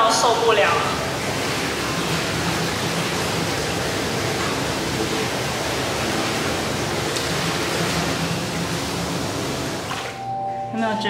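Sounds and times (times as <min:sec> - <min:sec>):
hot tub water rushing: 0:00.0 - 0:10.2.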